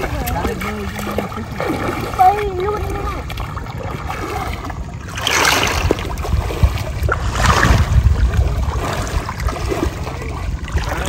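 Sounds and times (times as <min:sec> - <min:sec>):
people splashing in river: 0:00.0 - 0:11.0
steady low rumble: 0:00.0 - 0:11.0.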